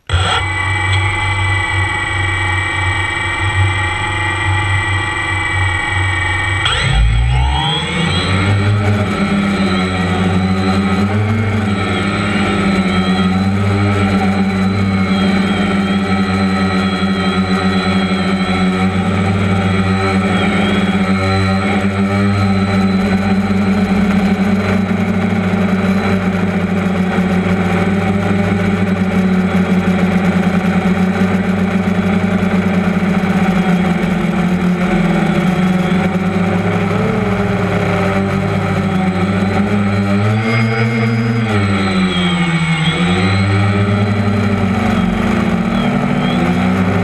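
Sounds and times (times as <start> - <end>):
quadcopter propellers buzzing: 0.0 - 47.0.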